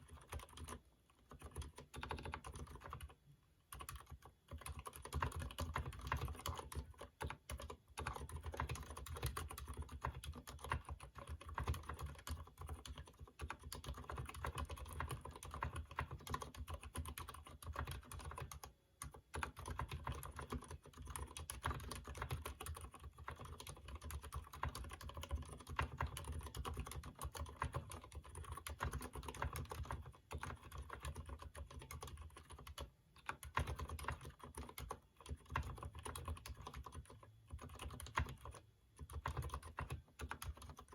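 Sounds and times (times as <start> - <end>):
soft keyboard typing: 0.0 - 40.9.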